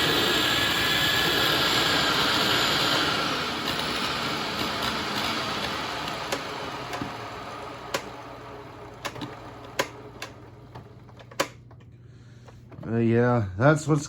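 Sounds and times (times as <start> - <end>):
vacuum motor spinning down: 0.0 - 11.5.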